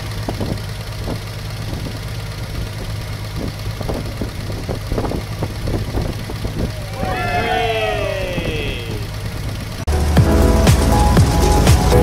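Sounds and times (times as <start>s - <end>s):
dune buggy engine idling: 0.0s - 12.0s.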